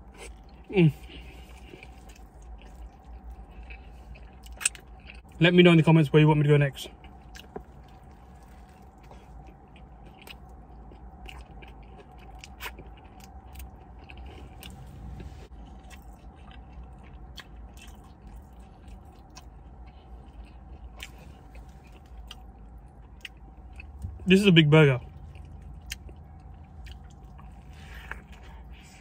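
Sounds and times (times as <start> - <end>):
chewing food: 0.0 - 5.4, 6.8 - 24.4, 25.0 - 29.0
steady low hum: 0.0 - 29.0.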